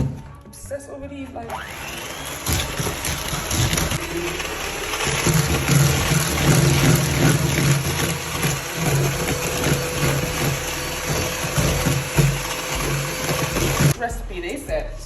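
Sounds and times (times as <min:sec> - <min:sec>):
electric mixer running: 0:01.5 - 0:14.0.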